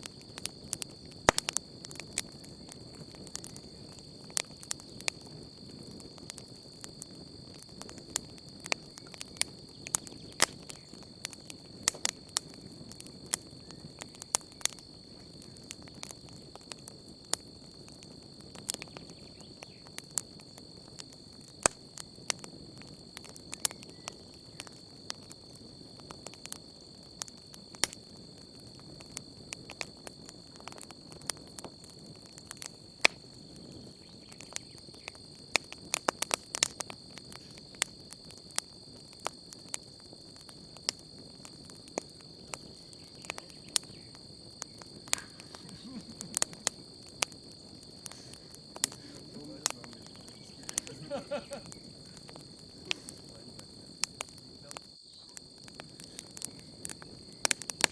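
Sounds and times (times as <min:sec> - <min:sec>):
campfire crackling and popping: 0:00.0 - 0:57.9
crickets trilling: 0:00.0 - 0:57.9.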